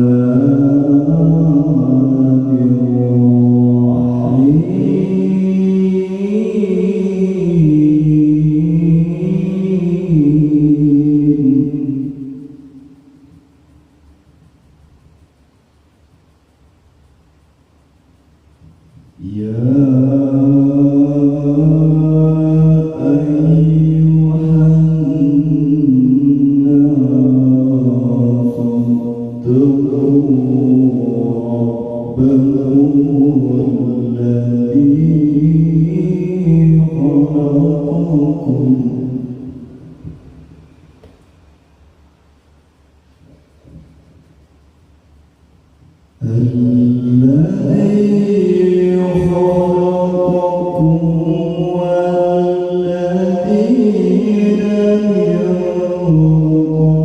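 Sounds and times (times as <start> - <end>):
melodic recitation with echo: 0.0 - 16.5, 17.8 - 41.9, 45.4 - 57.0.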